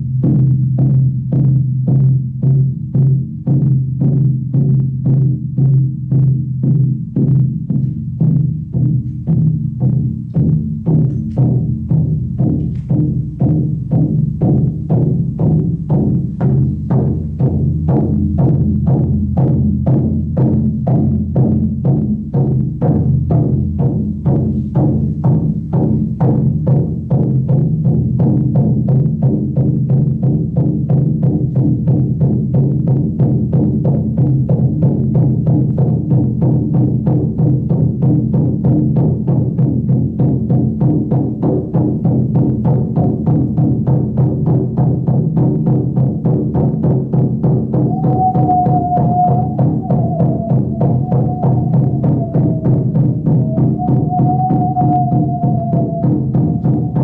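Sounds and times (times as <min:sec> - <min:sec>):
frame drum beaten steadily: 0:00.0 - 0:57.0.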